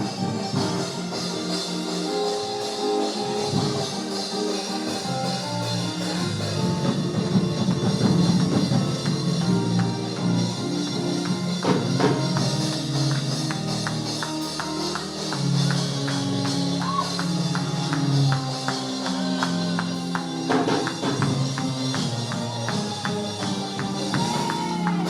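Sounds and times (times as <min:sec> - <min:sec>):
church music low chords: 0:00.0 - 0:25.0
sharp percussion strikes: 0:00.0 - 0:25.0.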